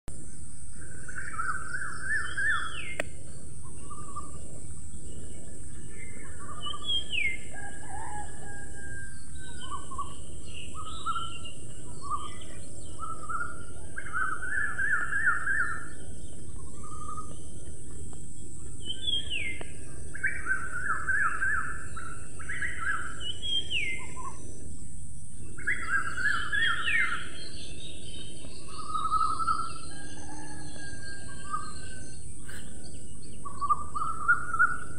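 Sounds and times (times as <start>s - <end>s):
birds calling and whistling: 0.1s - 34.9s
outdoor background hiss: 0.1s - 34.9s.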